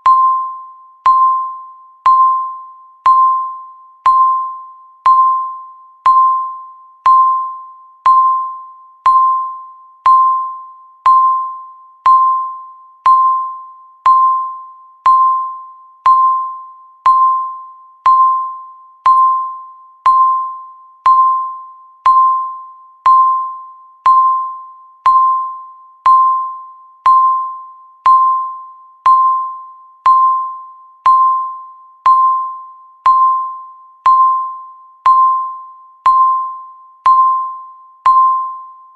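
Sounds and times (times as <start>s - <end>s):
bell-like timer beeps: 0.0s - 38.9s.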